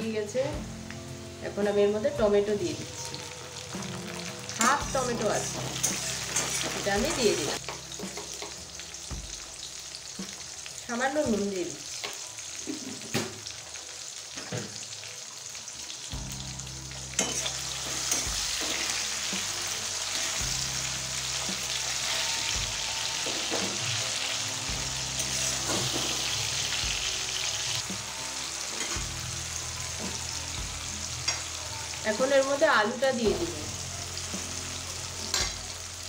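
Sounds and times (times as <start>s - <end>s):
onions sizzling in hot oil: 0.1s - 36.0s.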